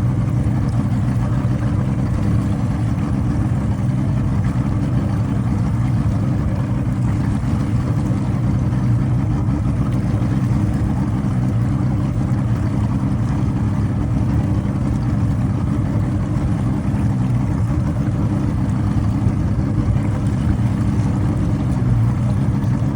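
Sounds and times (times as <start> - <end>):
engine running with misfire: 0.0 - 22.9.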